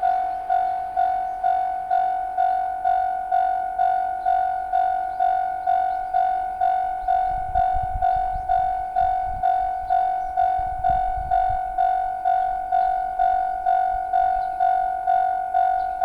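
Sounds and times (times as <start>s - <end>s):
level-crossing warning bell ringing: 0.0s - 16.0s.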